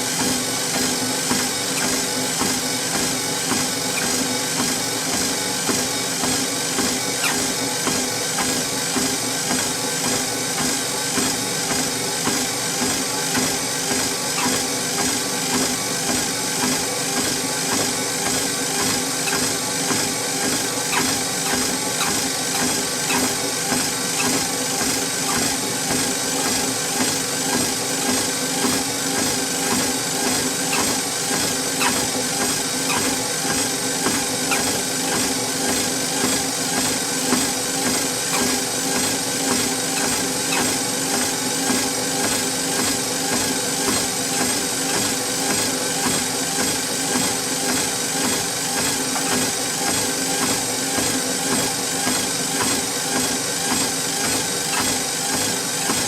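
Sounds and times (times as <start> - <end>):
footsteps on treadmill belt: 0.0 - 56.0
treadmill motor hum: 0.0 - 56.0.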